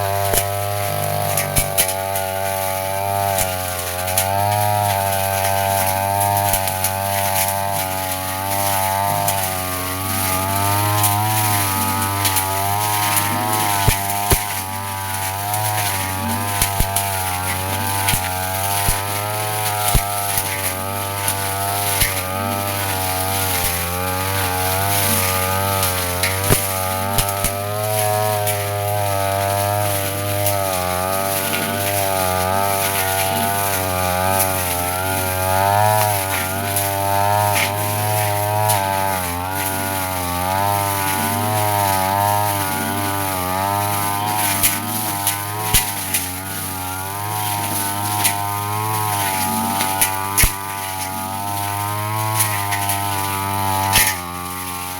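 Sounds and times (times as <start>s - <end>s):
brush cutter engine running: 0.0s - 54.9s.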